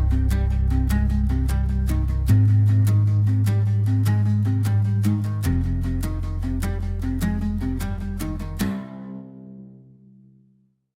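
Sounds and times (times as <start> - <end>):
guitar-led band music: 0.0 - 9.8.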